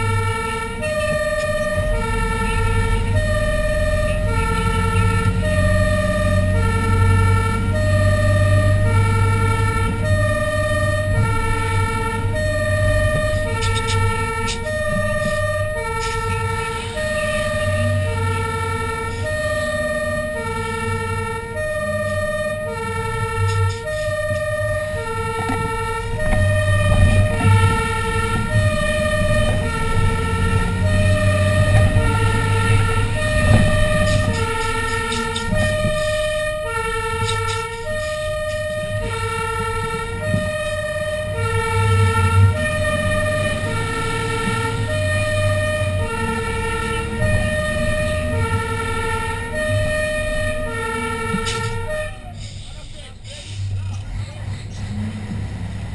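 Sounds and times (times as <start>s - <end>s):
fire engine two-tone siren: 0.0s - 53.7s
truck engine running: 0.0s - 55.9s.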